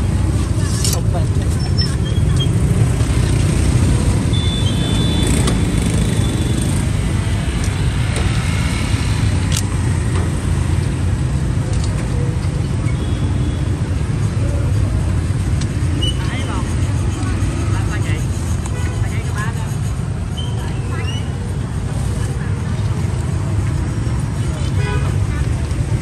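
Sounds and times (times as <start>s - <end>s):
traffic and motorbikes rumble: 0.0s - 26.0s.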